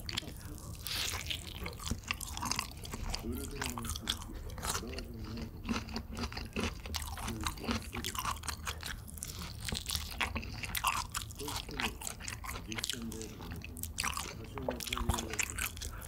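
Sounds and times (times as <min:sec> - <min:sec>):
crunchy chewing of fried chicken: 0:00.0 - 0:16.0.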